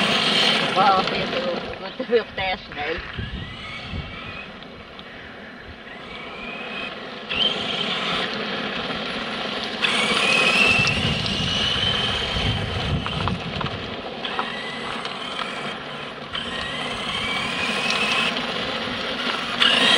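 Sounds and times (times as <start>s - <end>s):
model car motor whining: 0.0s - 19.9s
tyres on gravel: 0.0s - 19.9s.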